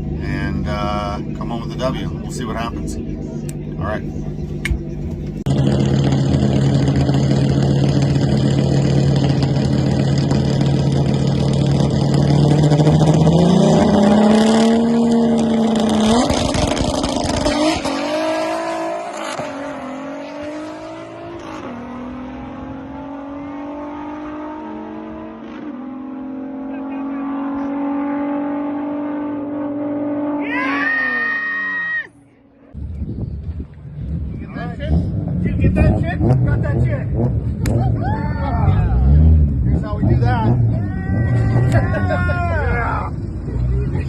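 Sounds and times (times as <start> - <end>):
drag car engine revving: 0.0 - 31.2, 34.0 - 44.0.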